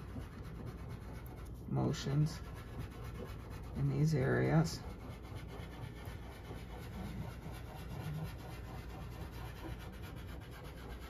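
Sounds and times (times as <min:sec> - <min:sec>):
pastel rubbing on paper: 0:00.0 - 0:11.0.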